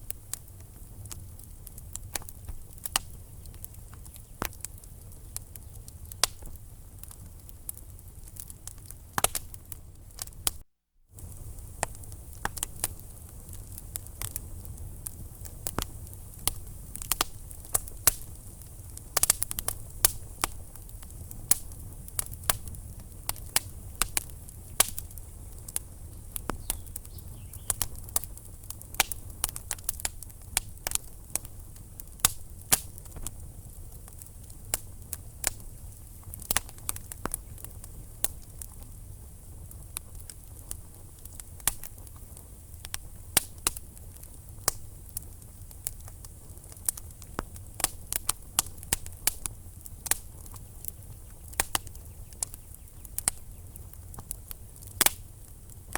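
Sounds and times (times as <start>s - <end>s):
wood fire pops and snaps: 0.0s - 10.6s, 11.2s - 55.9s
low rumble of flames: 0.0s - 55.9s.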